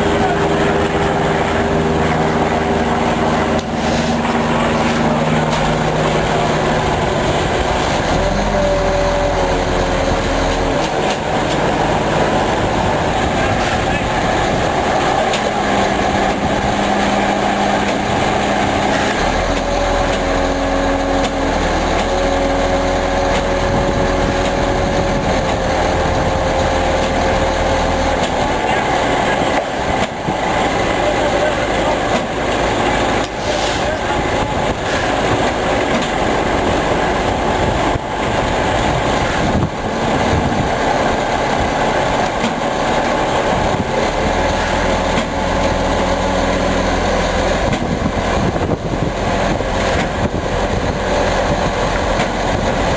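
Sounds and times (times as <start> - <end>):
engine whine and deep hum: 0.0 - 52.9
truck diesel engine running: 0.0 - 52.9.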